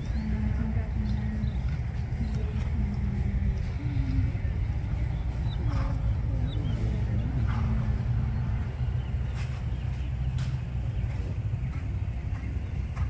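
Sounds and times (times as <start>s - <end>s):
low wind rumble on microphone: 0.0s - 13.0s.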